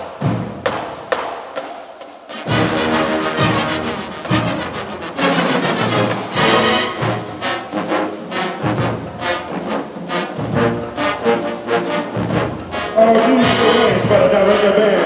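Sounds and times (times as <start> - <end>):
marching band playing: 0.1 - 15.0.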